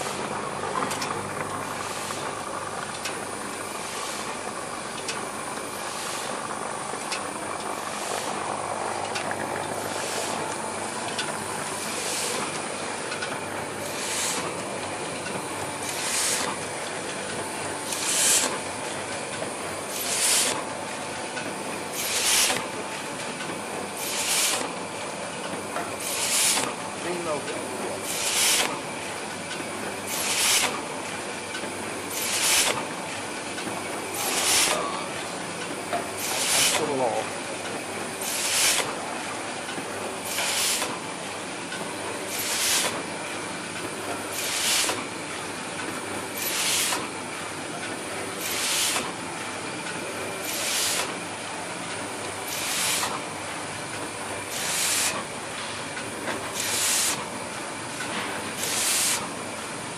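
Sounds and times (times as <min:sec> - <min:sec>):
collator machine running: 0:00.0 - 0:22.9, 0:23.5 - 0:59.9.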